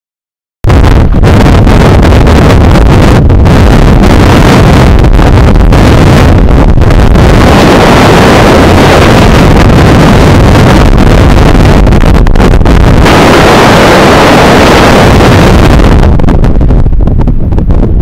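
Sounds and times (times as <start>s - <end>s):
wind buffeting microphone: 0.6s - 18.0s.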